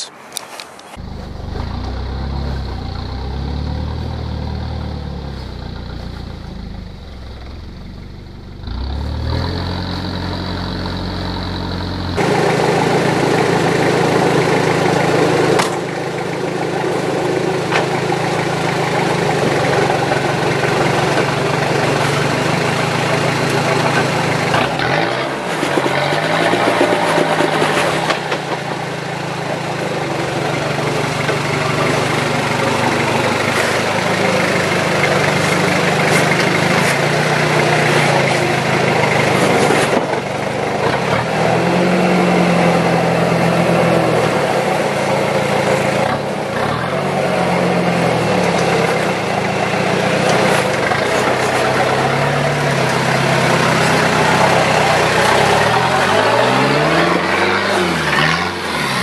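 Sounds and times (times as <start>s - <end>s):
diesel engine running: 0.8s - 59.0s.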